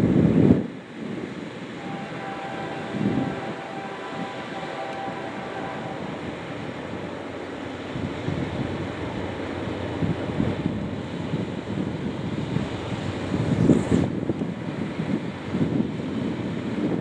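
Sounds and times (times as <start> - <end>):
freight train rumbling past: 0.0 - 17.0
wind buffeting microphone: 0.0 - 17.0.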